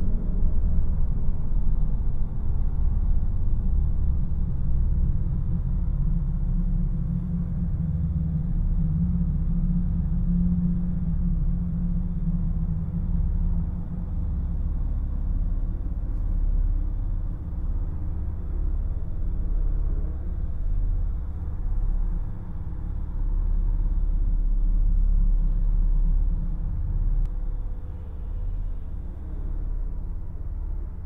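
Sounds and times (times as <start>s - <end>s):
faint sustained tone: 0.0s - 31.0s
low rumbling drone: 0.0s - 31.0s.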